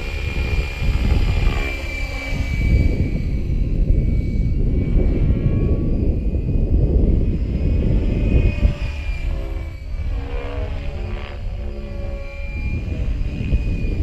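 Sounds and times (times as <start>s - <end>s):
rc helicopter motor whine: 0.0s - 14.0s
wind buffeting microphone: 0.0s - 14.0s.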